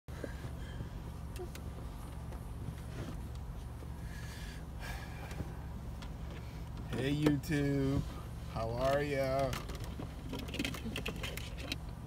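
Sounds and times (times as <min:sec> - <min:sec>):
faint clicks and rustles: 0:00.1 - 0:04.0, 0:05.2 - 0:12.0
car engine idling: 0:00.1 - 0:12.0.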